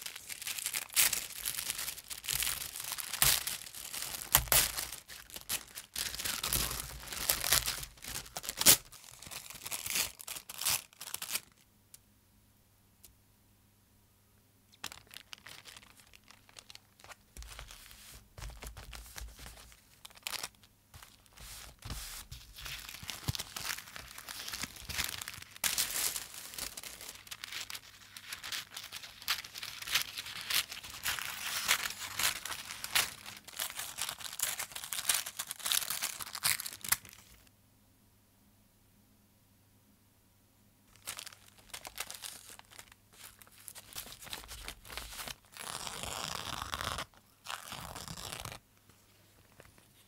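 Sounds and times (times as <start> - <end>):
paper crinkling and crackling: 0.0 - 11.6, 14.7 - 37.5, 41.0 - 50.0.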